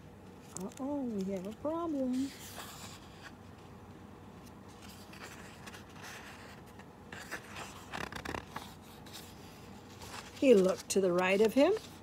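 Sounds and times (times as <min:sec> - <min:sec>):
book pages rustling: 0:00.2 - 0:12.0.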